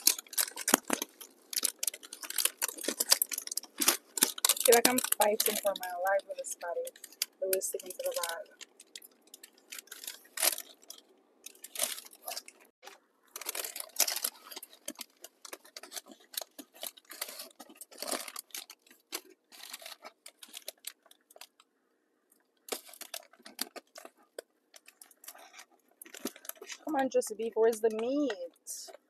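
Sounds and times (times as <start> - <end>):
paper bag crinkling and tearing: 0.0 - 21.6, 22.7 - 26.8.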